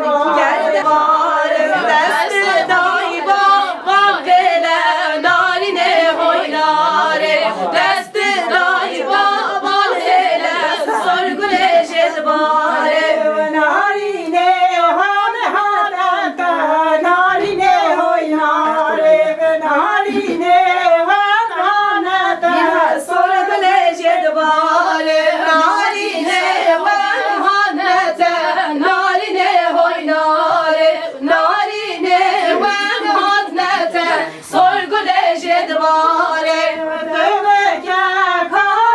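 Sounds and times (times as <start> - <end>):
women singing unaccompanied: 0.0 - 38.9.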